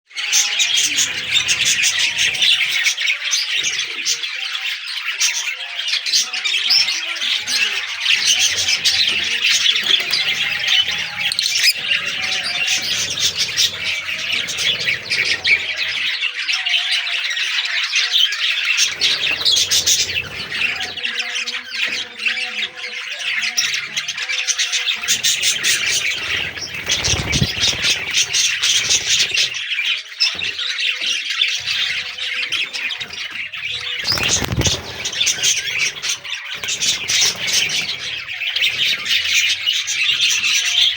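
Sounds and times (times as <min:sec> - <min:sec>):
budgerigars chattering and squawking: 0:00.1 - 0:40.9.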